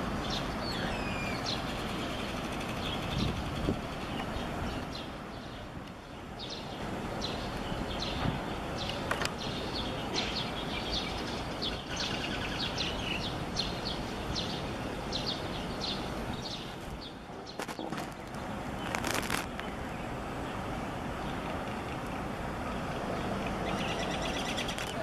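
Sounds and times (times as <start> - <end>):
outdoor street noise: 0.0 - 25.0
birds chirping: 0.1 - 25.0.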